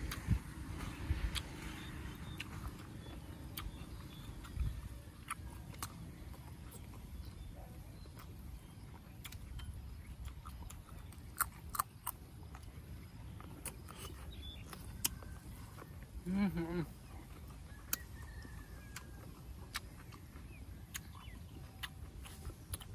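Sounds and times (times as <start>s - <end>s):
person chewing food: 0.0s - 22.9s
steady low rumble: 0.0s - 22.9s.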